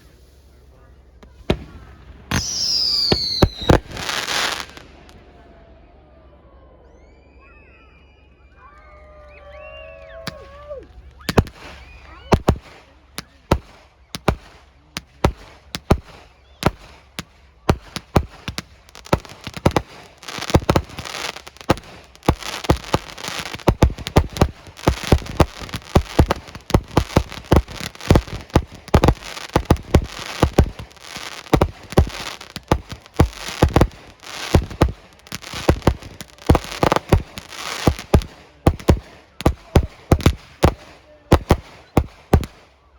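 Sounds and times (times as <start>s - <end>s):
fireworks crackling: 0.0s - 5.2s, 10.1s - 42.9s
fireworks bangs: 0.0s - 5.4s, 10.1s - 42.9s.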